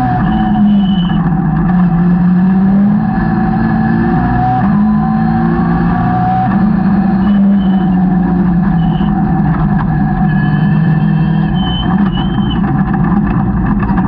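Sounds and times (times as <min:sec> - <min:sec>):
car engine revving at speed: 0:00.0 - 0:14.0
wind and road noise: 0:00.0 - 0:14.0.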